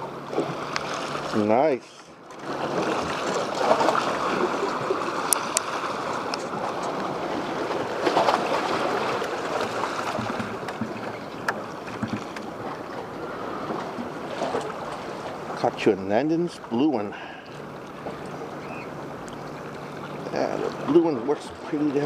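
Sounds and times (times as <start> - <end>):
surf rushing: 0.0 - 22.0
wind: 0.0 - 22.0.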